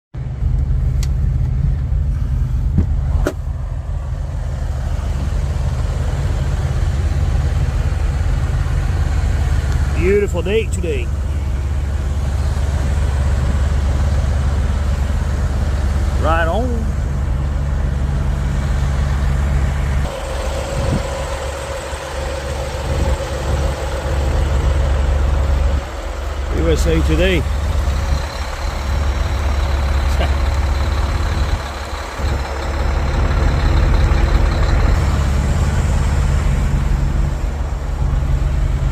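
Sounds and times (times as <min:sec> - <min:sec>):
truck engine and road rumble: 0:00.1 - 0:38.9
steady higher tone: 0:03.5 - 0:38.9.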